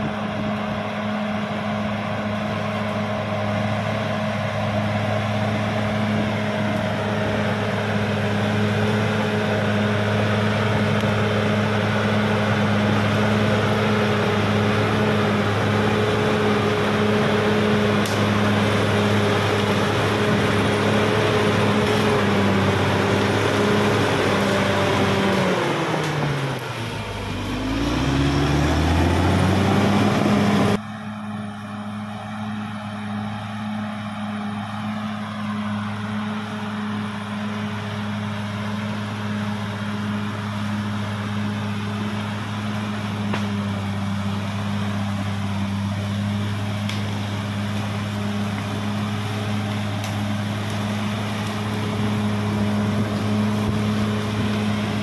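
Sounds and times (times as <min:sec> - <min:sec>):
bulldozer diesel engine running: 0:00.0 - 0:55.0
blade pushing soil: 0:00.1 - 0:30.8, 0:34.8 - 0:55.0.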